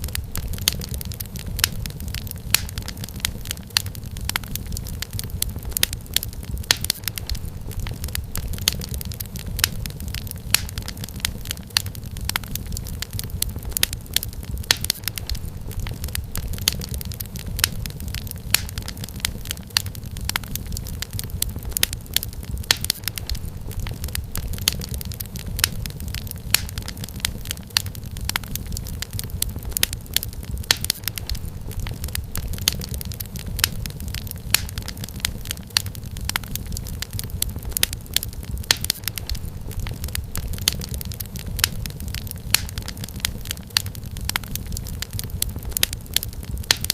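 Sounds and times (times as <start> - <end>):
fire crackling with pops and snaps: 0.0 - 46.9
low rumble of burning logs: 0.0 - 46.9.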